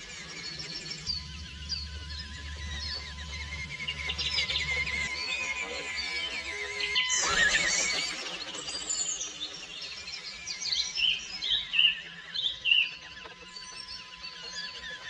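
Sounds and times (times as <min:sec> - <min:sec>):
loud down-slurred whistled notes: 0:00.0 - 0:13.0
birds chirping: 0:00.0 - 0:15.0.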